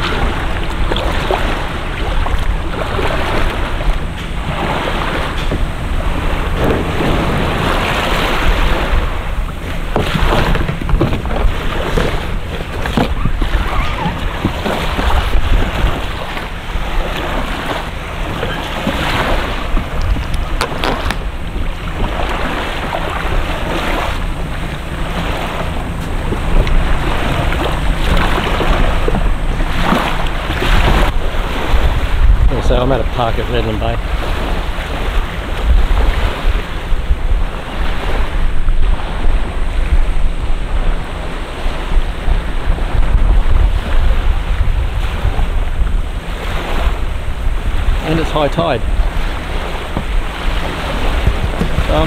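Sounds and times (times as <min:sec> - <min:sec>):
water splashing around kayak: 0:00.0 - 0:52.0
wind buffeting microphone: 0:00.0 - 0:52.0.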